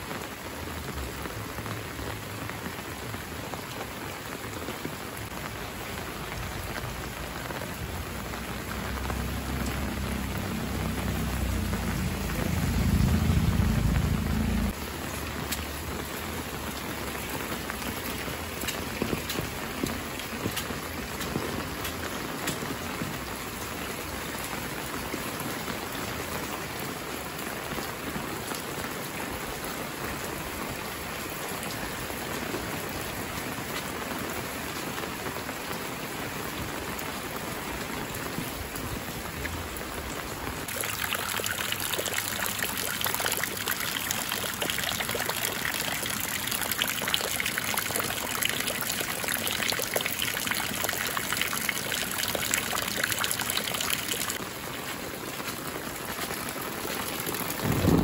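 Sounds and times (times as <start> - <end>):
rain on roofs and pavement: 0.0 - 58.0
rain on standing floodwater: 0.0 - 58.0.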